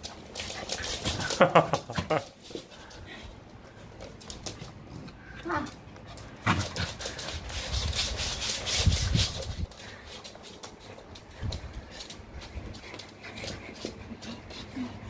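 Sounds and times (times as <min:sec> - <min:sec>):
toy and paws scuffling on wood: 0:00.0 - 0:15.0.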